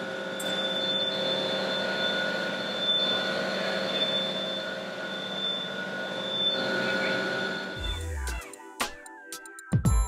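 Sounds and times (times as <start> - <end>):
constant whining tones: 0.0 - 8.6
machine drone: 0.0 - 8.6.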